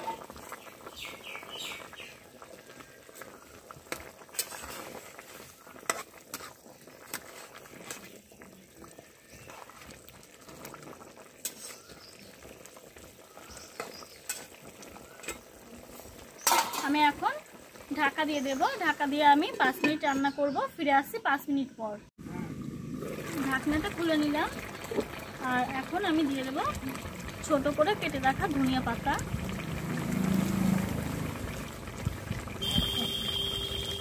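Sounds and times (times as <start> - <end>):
broth bubbling in a pan: 0.0 - 19.8, 22.2 - 34.0.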